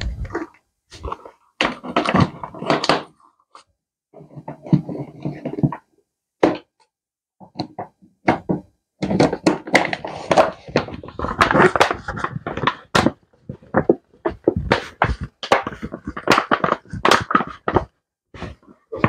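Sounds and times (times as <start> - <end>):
plastic jar knocks and rubbing: 0.0 - 3.2, 4.1 - 6.8, 7.4 - 19.0.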